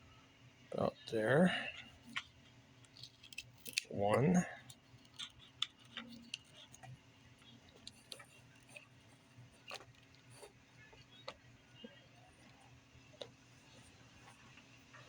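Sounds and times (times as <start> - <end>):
faint clicks of small parts: 1.6 - 15.0.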